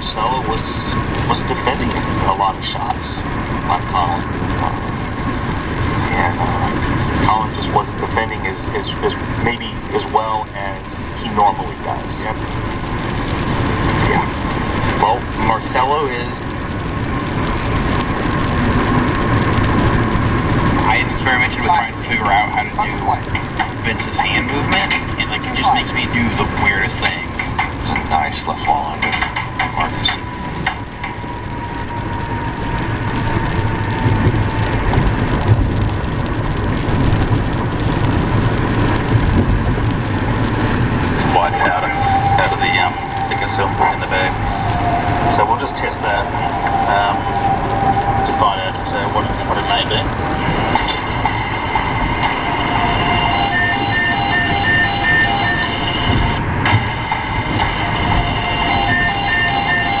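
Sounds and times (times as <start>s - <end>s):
rain hissing on car: 0.0s - 60.0s
tyres rumbling on wet road: 0.0s - 60.0s.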